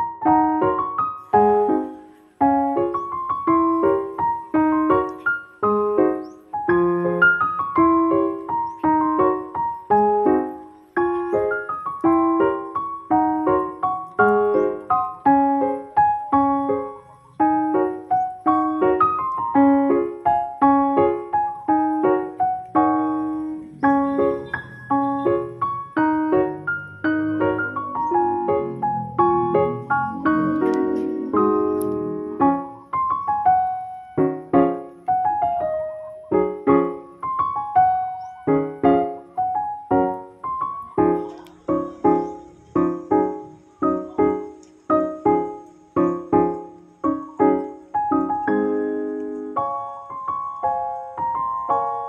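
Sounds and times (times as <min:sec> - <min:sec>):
piano melody: 0:00.0 - 0:52.0.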